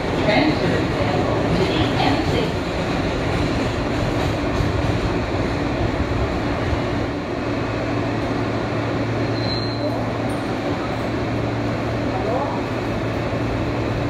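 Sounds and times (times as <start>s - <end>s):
train rumble and rail noise: 0.0s - 14.0s.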